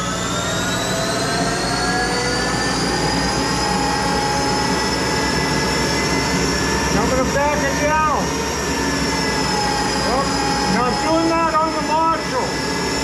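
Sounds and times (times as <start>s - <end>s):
lathe whine rising in pitch: 0.0s - 13.0s.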